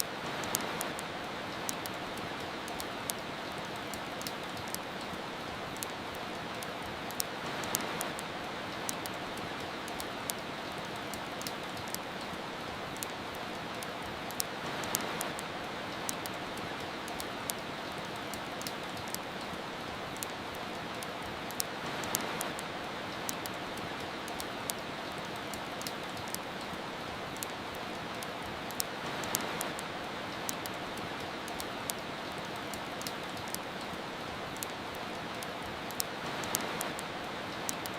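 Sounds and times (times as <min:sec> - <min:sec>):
rain hiss: 0:00.0 - 0:37.9
wood fire crackling: 0:00.0 - 0:37.9.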